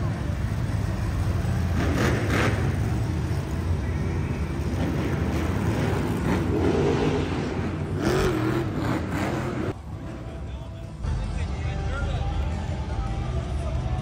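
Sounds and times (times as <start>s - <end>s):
monster truck engines rumbling: 0.0s - 14.0s.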